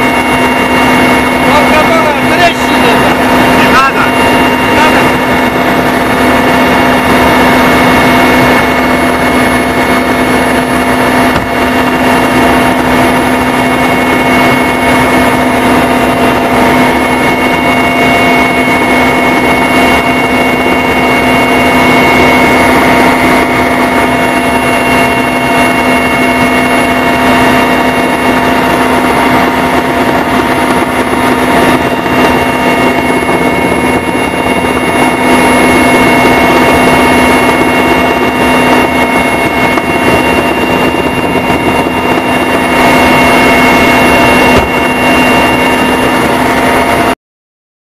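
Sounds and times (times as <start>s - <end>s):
loud engine drone: 0.0s - 47.2s.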